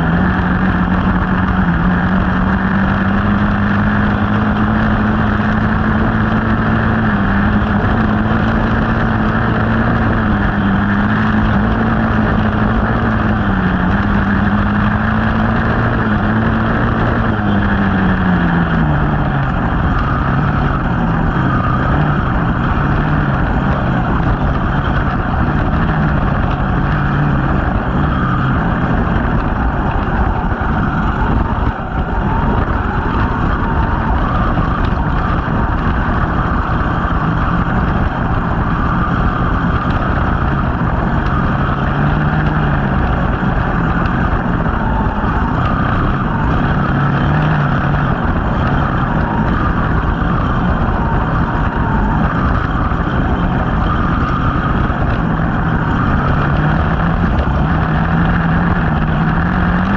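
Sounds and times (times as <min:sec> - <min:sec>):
dirt bike engine running: 0:00.0 - 0:59.9
wind on microphone: 0:00.0 - 0:59.9.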